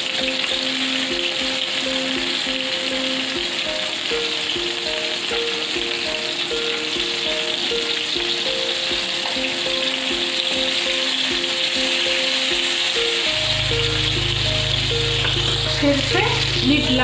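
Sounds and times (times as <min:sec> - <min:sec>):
background melody: 0:00.0 - 0:17.0
food sizzling in oil: 0:00.0 - 0:17.0.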